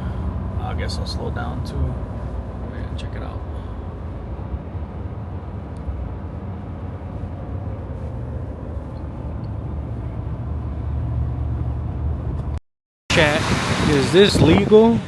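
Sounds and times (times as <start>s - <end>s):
engine and tyre rumble in truck cab: 0.0s - 15.0s.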